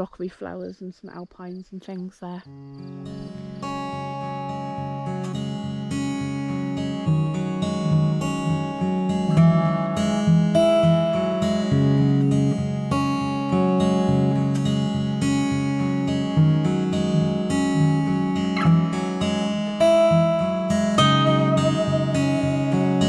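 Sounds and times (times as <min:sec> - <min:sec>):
instrumental music with plucked notes: 0:03.1 - 0:23.0.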